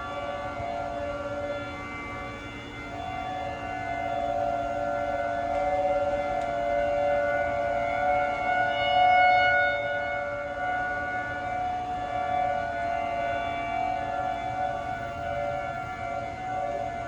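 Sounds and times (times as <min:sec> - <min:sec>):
two-tone warning siren: 0:00.0 - 0:17.0.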